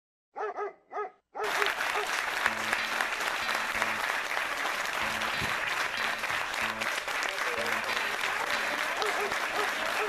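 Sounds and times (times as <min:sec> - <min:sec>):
crowd applauding: 0:01.4 - 0:10.0.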